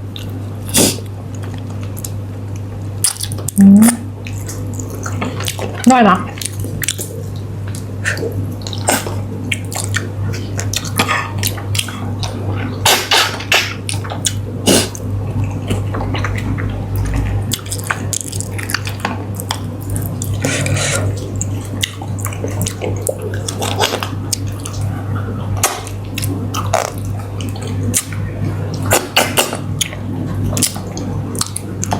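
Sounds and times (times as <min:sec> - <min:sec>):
low hum: 0:00.0 - 0:31.9
person eating and chewing: 0:00.0 - 0:31.9.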